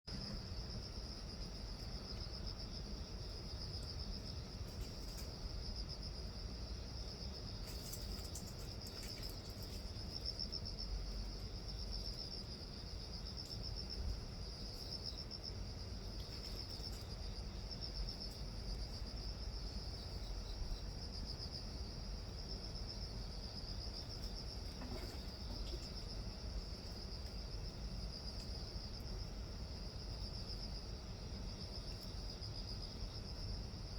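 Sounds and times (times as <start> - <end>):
crickets trilling: 0.1 - 33.9.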